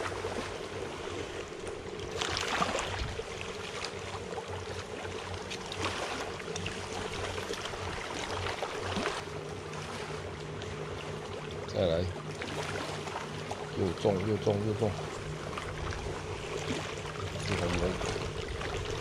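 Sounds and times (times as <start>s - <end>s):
lakeside water noise: 0.0s - 19.0s
motorboat engine drone: 0.0s - 19.0s.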